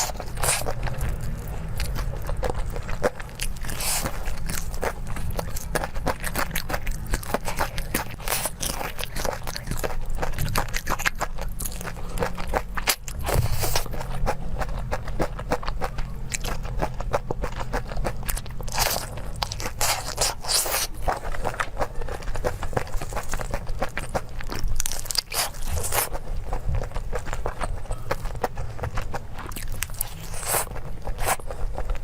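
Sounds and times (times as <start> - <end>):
person chewing crunchy food: 0.0 - 32.0.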